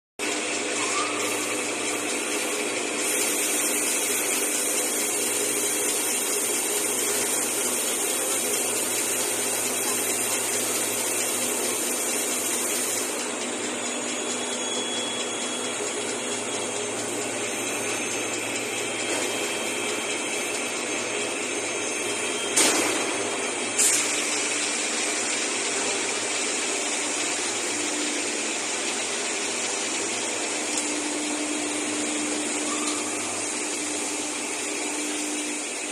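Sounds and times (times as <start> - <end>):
machine drone with low hum: 0.7 - 27.6, 28.5 - 35.9.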